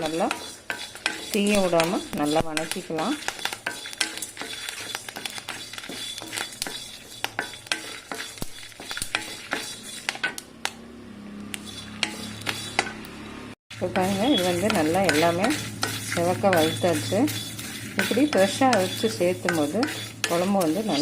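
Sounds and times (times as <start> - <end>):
stirrer clicking against pan: 0.0 - 10.8, 13.9 - 21.0
stirrer scraping an iron pan: 0.0 - 10.8, 11.5 - 13.1, 13.7 - 21.0
light sizzle: 0.0 - 21.0.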